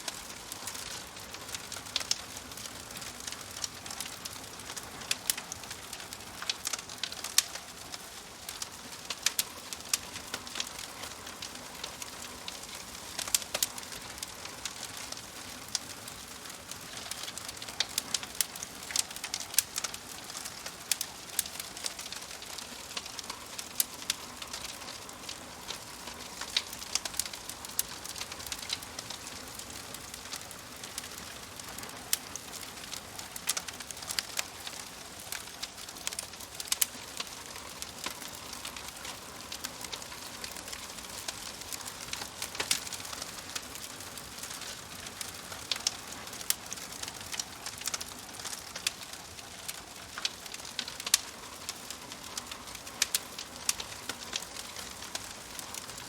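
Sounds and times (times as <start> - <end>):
fire popping and snapping: 0.0 - 56.0
wood fire hissing: 0.0 - 56.0.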